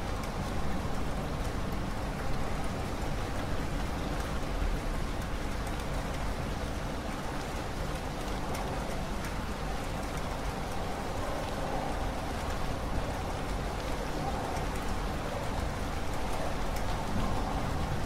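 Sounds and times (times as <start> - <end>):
raindrop ticks: 0.0 - 18.0
steady rain falling: 0.0 - 18.0.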